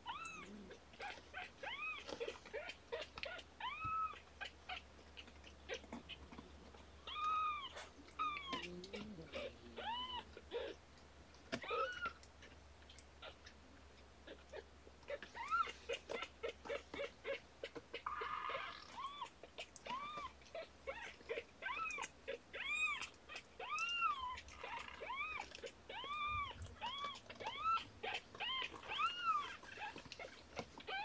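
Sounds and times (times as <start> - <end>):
kitten squeaks: 0.0 - 6.4, 7.0 - 10.8, 11.5 - 12.6, 14.2 - 31.0
kittens mewing: 0.0 - 10.8, 11.5 - 12.6, 14.2 - 31.0.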